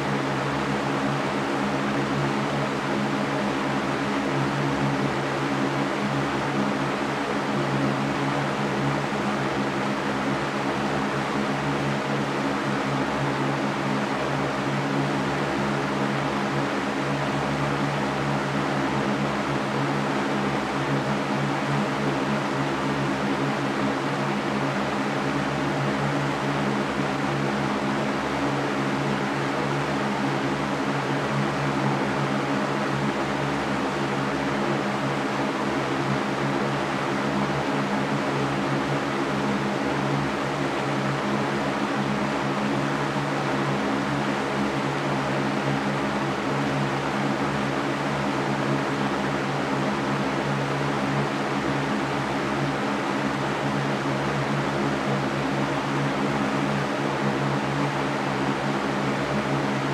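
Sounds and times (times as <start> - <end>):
floor fan running: 0.0 - 59.9.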